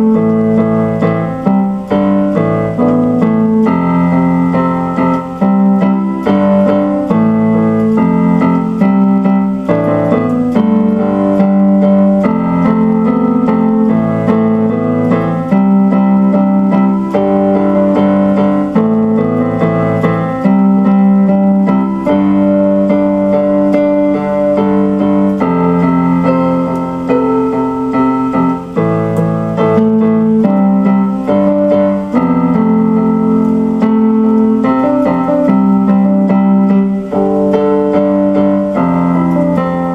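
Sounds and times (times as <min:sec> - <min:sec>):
electronic keyboard playing chords: 0:00.0 - 0:39.9.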